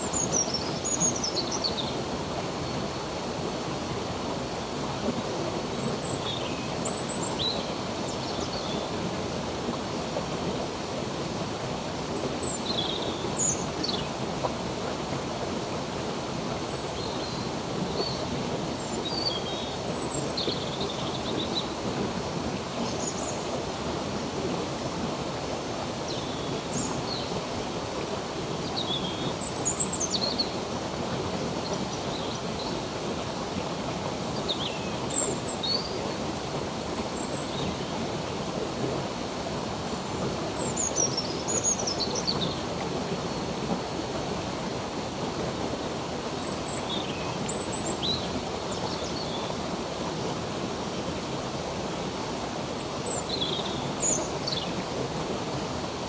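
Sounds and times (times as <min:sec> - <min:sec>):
stream water running: 0:00.0 - 0:56.0.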